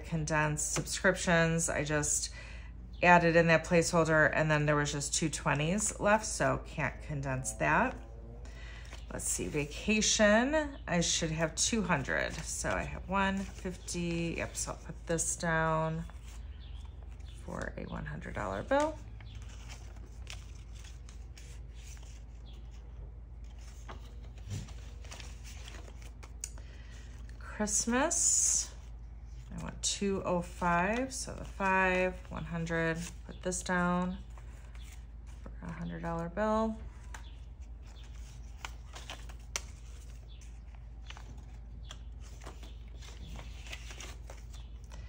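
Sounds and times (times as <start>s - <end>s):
low room hum: 0.0s - 45.0s
rustling of paper banknotes: 4.6s - 27.9s, 28.6s - 45.0s.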